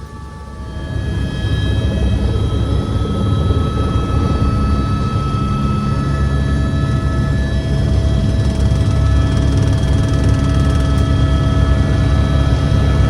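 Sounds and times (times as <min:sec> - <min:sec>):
helicopter rotor and engine roar: 0:00.0 - 0:13.0
high-pitched whine: 0:00.0 - 0:13.0.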